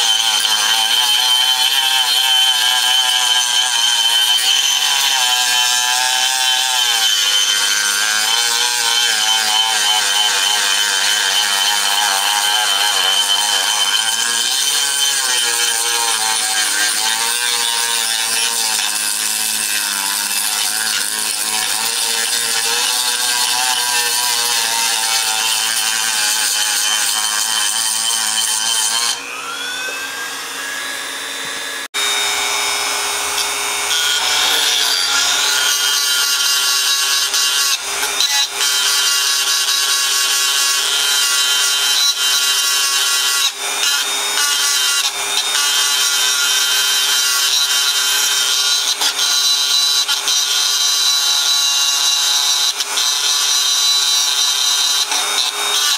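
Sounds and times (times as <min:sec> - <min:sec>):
rotary tool grinding metal: 0:00.0 - 0:55.9.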